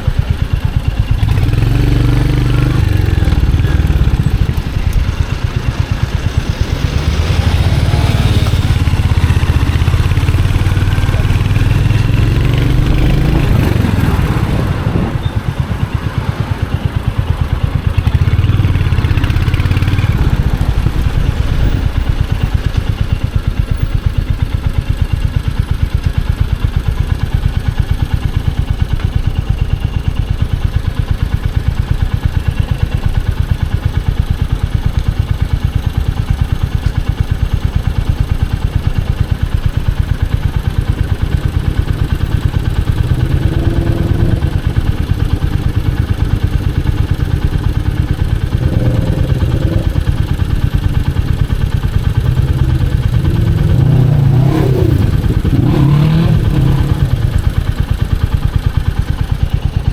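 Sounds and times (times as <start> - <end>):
motorcycle engine thumping: 0.0 - 30.6, 33.1 - 59.9.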